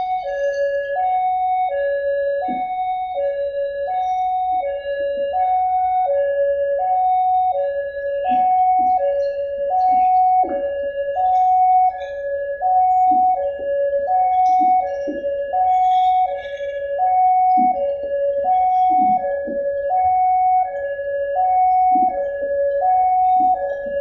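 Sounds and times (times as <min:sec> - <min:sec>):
two-tone level crossing alarm: 0:00.0 - 0:24.0.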